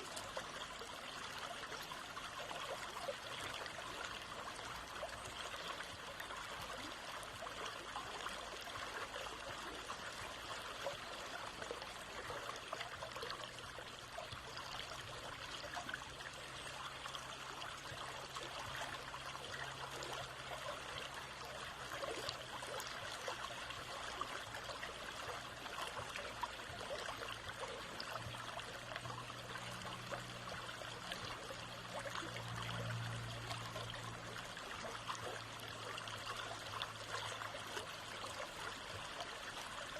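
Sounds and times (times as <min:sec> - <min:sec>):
low steady hum: 0:00.0 - 0:39.9
water flowing and trickling: 0:00.0 - 0:39.9.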